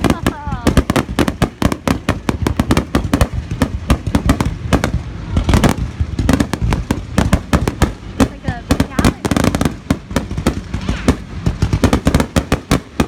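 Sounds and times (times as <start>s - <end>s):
deep fireworks booms: 0.0s - 13.0s
fireworks bangs and crackles: 0.0s - 13.0s.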